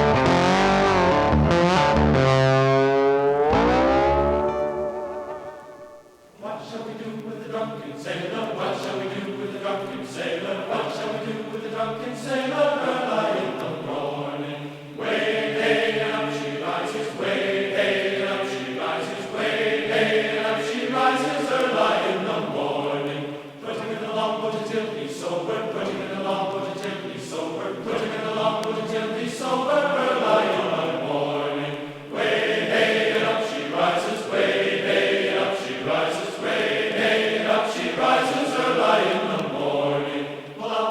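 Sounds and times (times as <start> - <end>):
choral voices singing held notes: 3.5 - 40.9.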